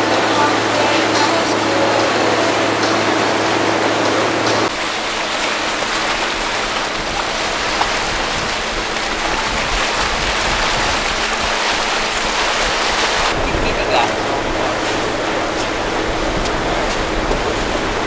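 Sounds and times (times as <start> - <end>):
low engine hum: 0.0 - 18.0
water rushing past boat: 0.0 - 18.0
wind buffeting microphone: 1.1 - 18.0.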